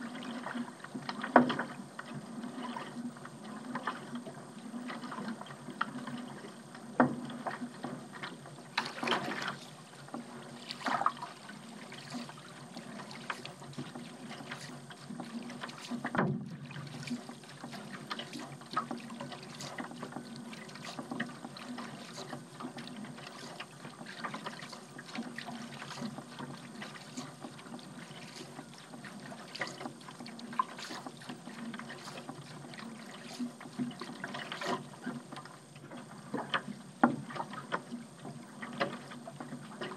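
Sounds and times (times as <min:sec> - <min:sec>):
paddle strokes in water: 0:00.0 - 0:39.9
steady water wash: 0:00.0 - 0:39.9
water splashes and drips: 0:00.0 - 0:39.9.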